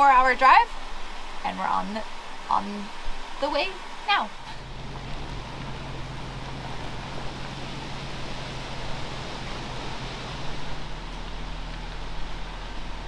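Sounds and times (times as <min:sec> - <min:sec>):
road and wind noise: 0:00.0 - 0:13.0
van engine hum: 0:00.0 - 0:13.0.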